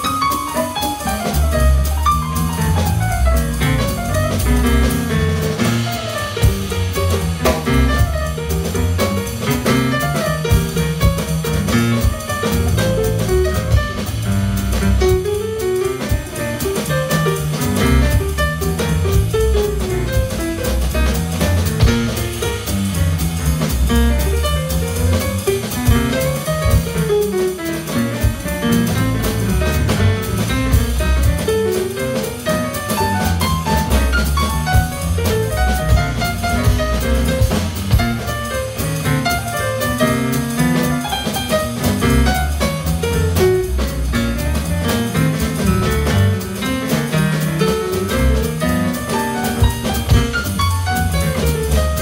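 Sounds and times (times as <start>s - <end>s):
drum kit and cymbals: 0.0s - 52.0s
piano: 0.0s - 52.0s
walking bass line: 1.0s - 52.0s.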